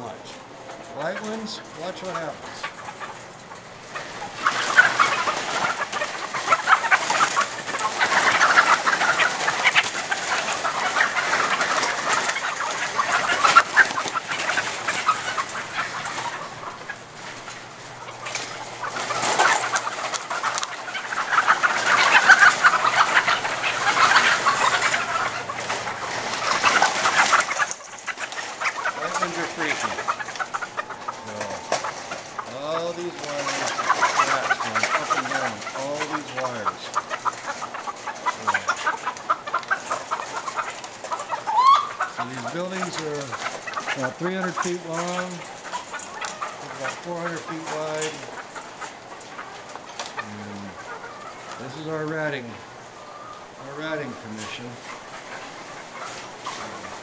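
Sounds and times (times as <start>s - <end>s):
hens squawking and cackling: 0.0s - 57.0s.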